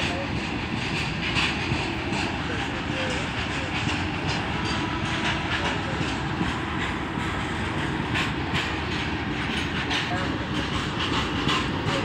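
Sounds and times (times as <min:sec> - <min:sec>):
clickety-clack over rail joints: 0:00.0 - 0:12.0
train wheels rumbling on rail: 0:00.0 - 0:12.0.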